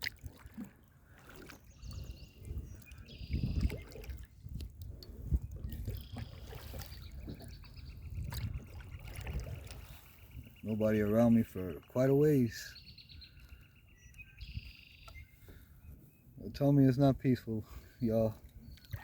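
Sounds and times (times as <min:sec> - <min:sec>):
water lapping against kayak hull: 0:00.0 - 0:16.6, 0:17.6 - 0:19.0.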